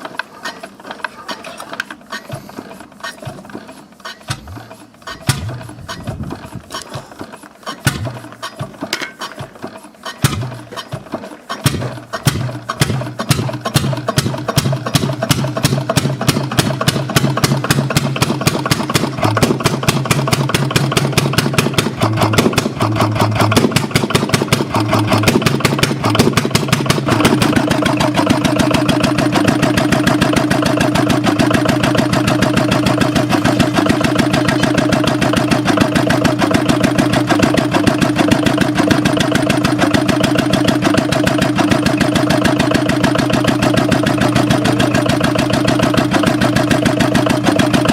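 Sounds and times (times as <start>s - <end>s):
old engine starting and running: 0.0s - 47.9s.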